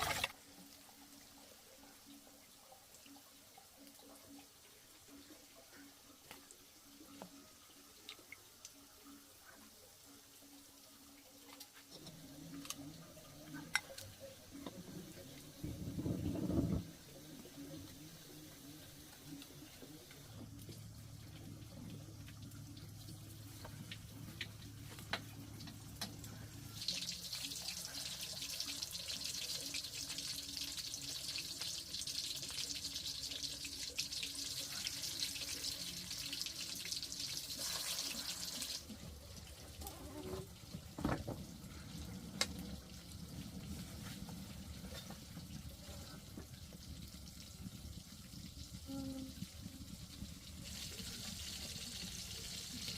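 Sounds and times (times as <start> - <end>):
water running from tap: 0.0 - 0.3, 10.8 - 52.9.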